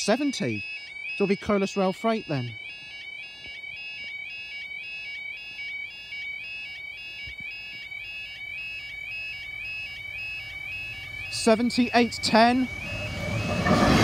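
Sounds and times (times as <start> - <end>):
level crossing warbling alarm: 0.0 - 14.0.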